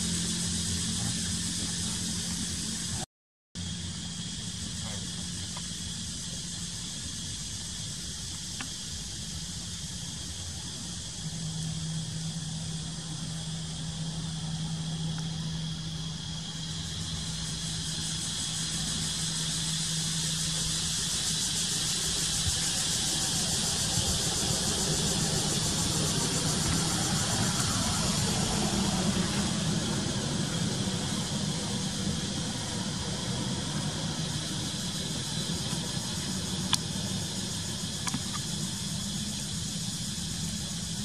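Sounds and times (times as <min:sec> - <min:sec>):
high-pitched hiss: 0:00.0 - 0:41.0
vehicle engine running: 0:00.0 - 0:41.0.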